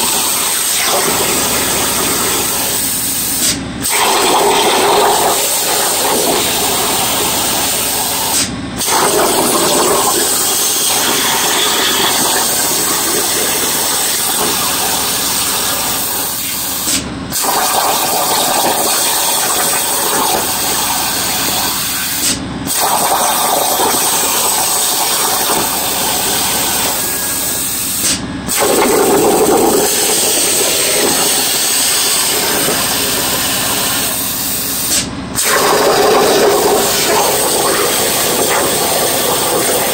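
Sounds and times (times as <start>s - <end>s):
plasma torch hissing: 0.1s - 39.9s.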